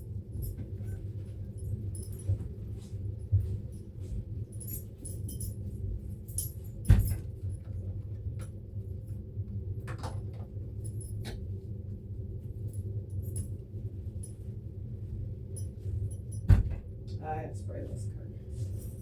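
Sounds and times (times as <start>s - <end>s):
air conditioning hum: 0.0s - 19.0s.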